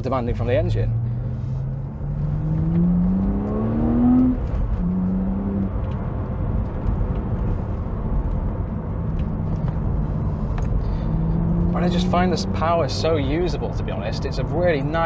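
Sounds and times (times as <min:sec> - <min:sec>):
road noise: 0:00.0 - 0:15.0
car engine accelerating: 0:00.1 - 0:15.0.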